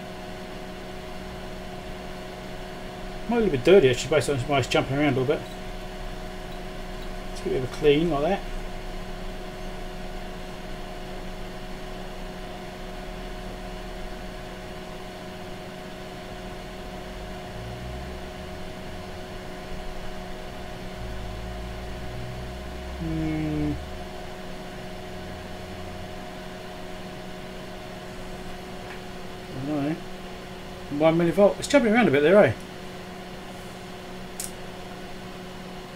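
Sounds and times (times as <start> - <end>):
electrical hum: 0.0 - 35.9
fan noise: 0.0 - 35.9.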